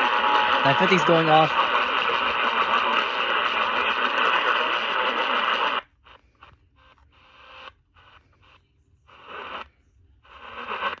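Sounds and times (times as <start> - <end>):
radio static bursts: 0.0 - 11.0
radio station audio: 0.0 - 11.0.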